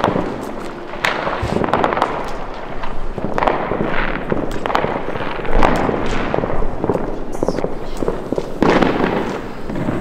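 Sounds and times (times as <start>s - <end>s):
fireworks cracks and bangs: 0.0s - 10.0s.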